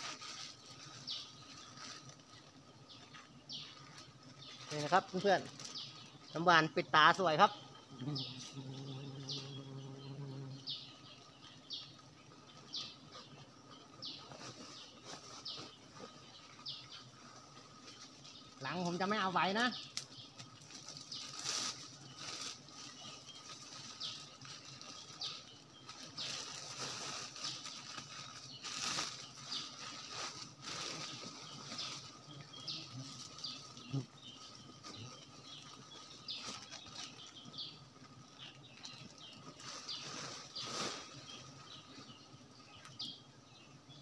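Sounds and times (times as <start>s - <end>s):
branches and leaves rustling: 0.0s - 44.0s.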